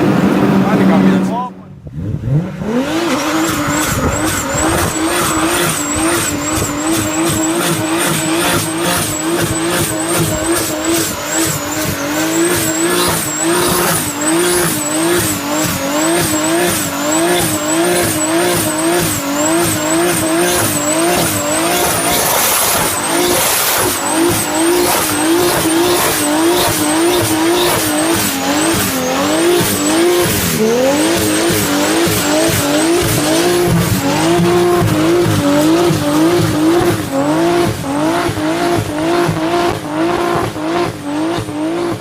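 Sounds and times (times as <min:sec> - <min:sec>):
car engine revving hard: 0:00.0 - 0:42.0
turbo whine: 0:03.1 - 0:41.7.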